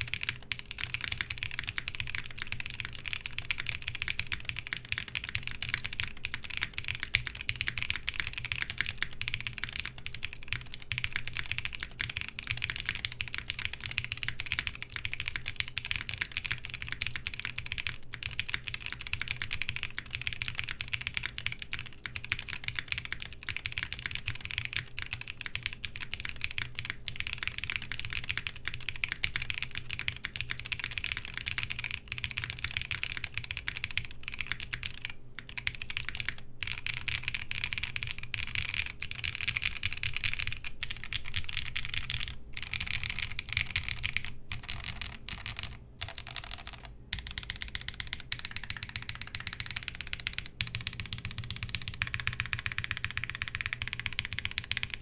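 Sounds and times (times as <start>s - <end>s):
faint fan hum: 0.0s - 55.0s
mechanical keyboard typing: 0.0s - 55.0s.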